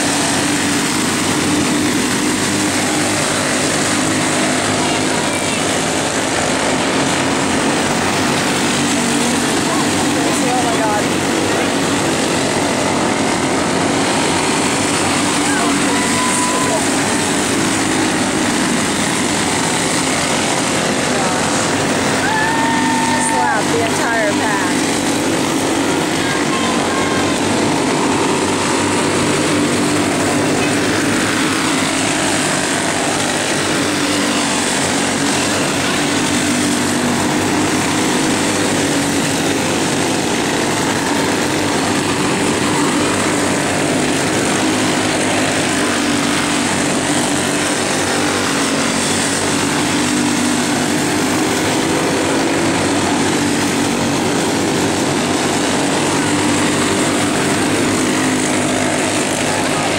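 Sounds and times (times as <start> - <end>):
kart engines racing: 0.0 - 59.9.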